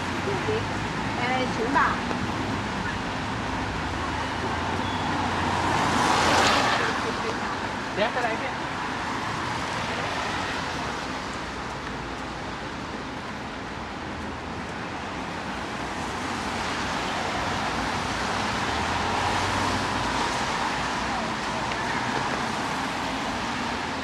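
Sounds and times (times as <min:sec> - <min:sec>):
city road traffic: 0:00.0 - 0:24.0.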